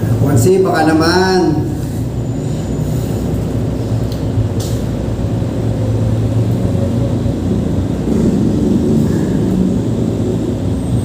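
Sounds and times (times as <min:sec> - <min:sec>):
mechanical rumble and hum: 0:00.0 - 0:11.0.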